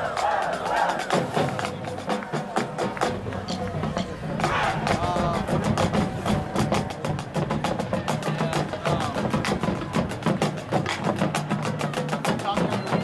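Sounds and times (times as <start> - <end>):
low drum tones: 0.0 - 13.0
sharp drum taps and clicks: 1.0 - 13.0.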